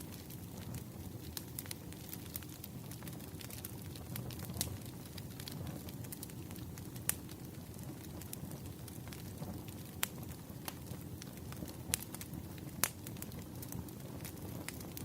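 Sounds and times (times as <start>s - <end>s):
burning wood popping: 0.0s - 15.0s
campfire crackling: 0.0s - 15.0s.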